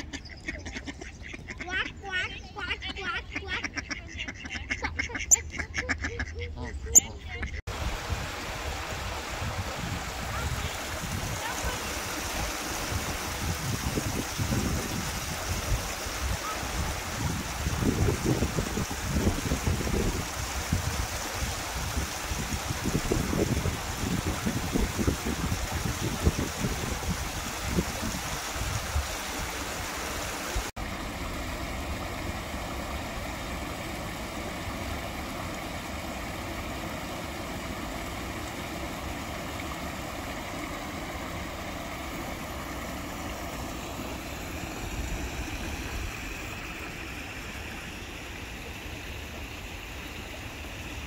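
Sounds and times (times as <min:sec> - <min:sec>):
stream rushing over stones: 0:07.7 - 0:51.0.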